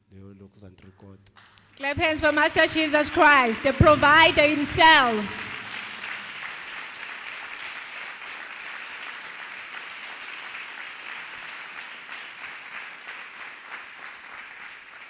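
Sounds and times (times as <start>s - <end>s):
crowd clapping: 1.4s - 15.0s.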